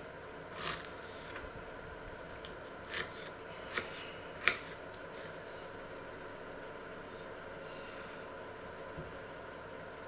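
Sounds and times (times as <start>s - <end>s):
room hum and hiss: 0.0s - 10.0s.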